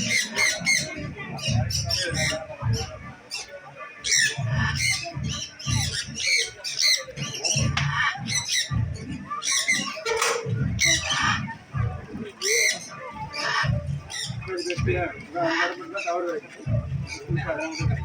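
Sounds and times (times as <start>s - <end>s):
parrots squawking: 0.0s - 18.0s.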